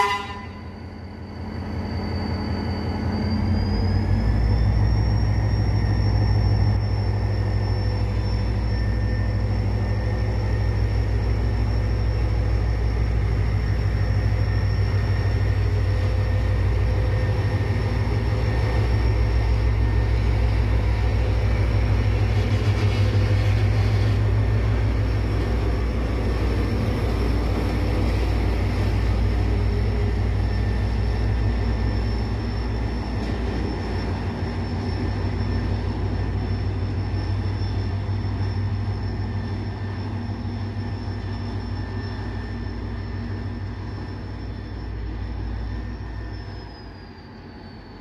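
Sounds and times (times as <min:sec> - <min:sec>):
diesel locomotive engines throbbing: 0:00.0 - 0:48.0
thin high whine: 0:00.0 - 0:48.0.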